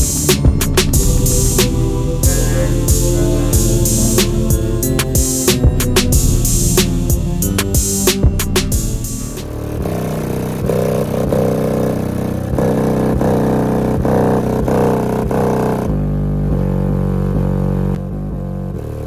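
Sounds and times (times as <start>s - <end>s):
subwoofer playing deep bass: 0.0s - 19.0s.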